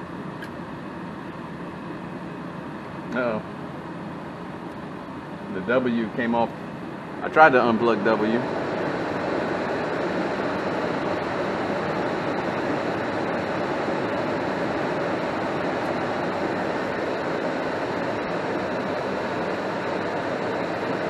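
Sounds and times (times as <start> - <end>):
gas furnace fan and air rushing: 0.0 - 21.0.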